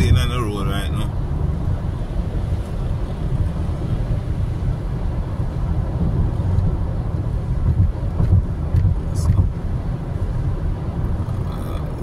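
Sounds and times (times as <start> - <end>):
car road noise from inside: 0.0 - 12.0.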